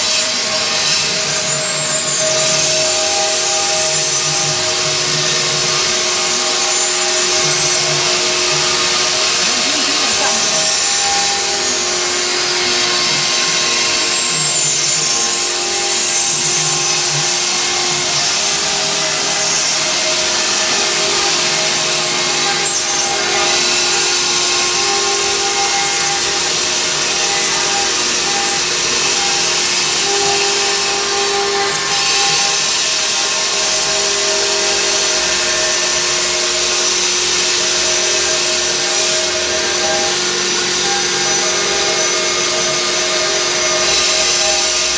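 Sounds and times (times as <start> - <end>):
grinding hiss on stone: 0.0 - 44.9
router spindle whine: 0.0 - 44.9.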